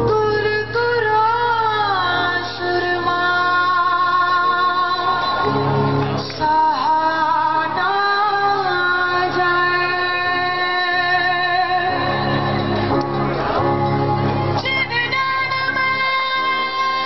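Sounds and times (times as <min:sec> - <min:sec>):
electric guitars: 0:02.0 - 0:17.0.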